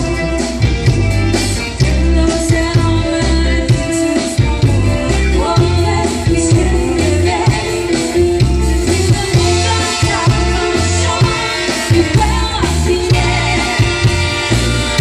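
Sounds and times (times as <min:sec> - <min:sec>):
live dance band playing: 0:00.0 - 0:15.0
person singing: 0:01.7 - 0:14.2.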